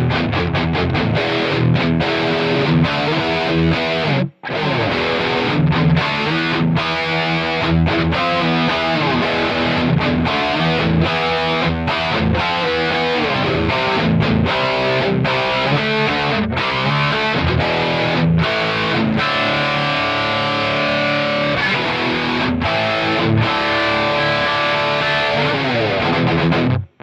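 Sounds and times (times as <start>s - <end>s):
distorted electric guitar riff: 0.0s - 27.0s.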